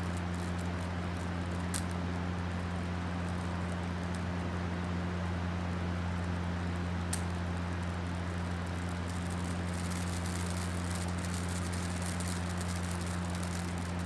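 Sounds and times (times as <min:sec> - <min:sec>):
faint rapid crackle of ticks: 0:00.0 - 0:05.0, 0:05.7 - 0:14.0
low hum with hiss: 0:00.0 - 0:14.0.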